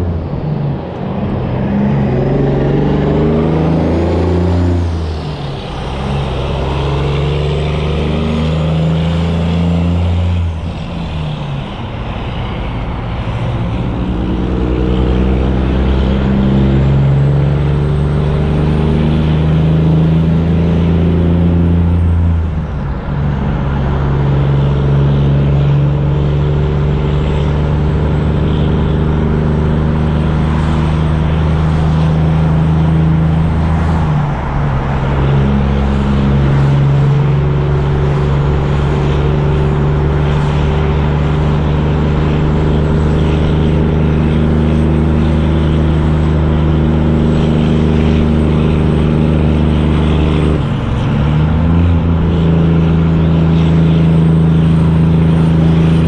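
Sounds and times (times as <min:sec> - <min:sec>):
diesel truck engines running: 0:00.0 - 0:56.0.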